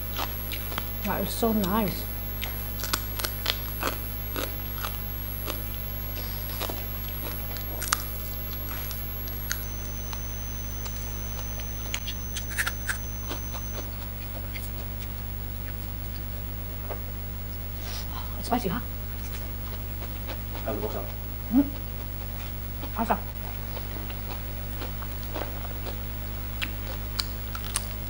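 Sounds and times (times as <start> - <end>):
chewing crunchy fried fish: 0.0 - 17.1, 19.1 - 28.0
low hum: 0.0 - 28.0.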